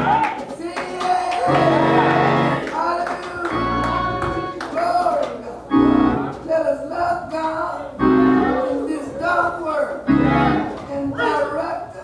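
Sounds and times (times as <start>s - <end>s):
organ holding chords: 0.0s - 0.3s, 1.4s - 11.0s.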